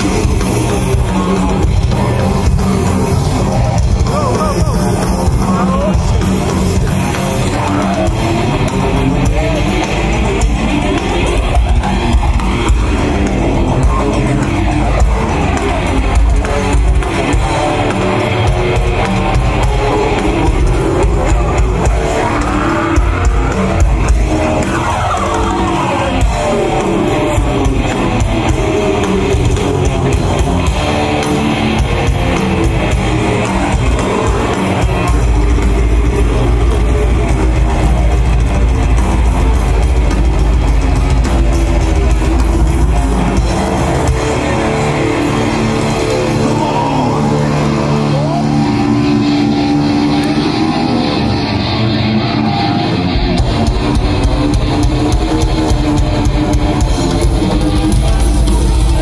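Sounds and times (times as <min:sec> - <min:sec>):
heavy sustained bass: 0:00.0 - 0:59.0
live heavy metal band: 0:00.0 - 0:59.0.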